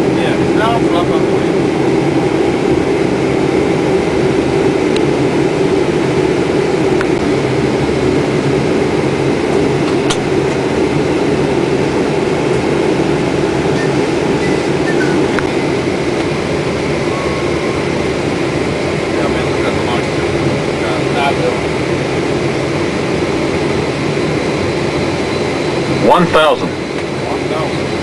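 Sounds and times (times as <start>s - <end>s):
airflow and engine noise: 0.0s - 28.0s.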